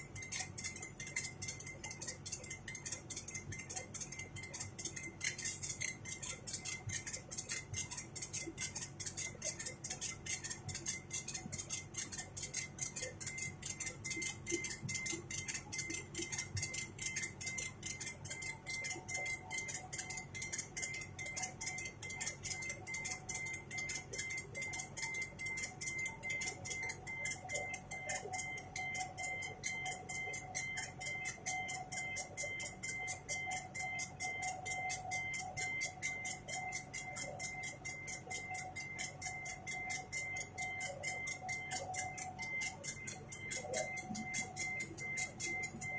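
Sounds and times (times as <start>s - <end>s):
lower machine tone: 0.0s - 45.9s.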